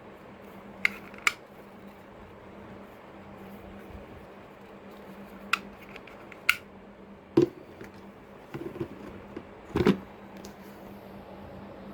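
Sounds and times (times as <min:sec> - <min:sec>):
faint steady hum: 0:00.0 - 0:11.9.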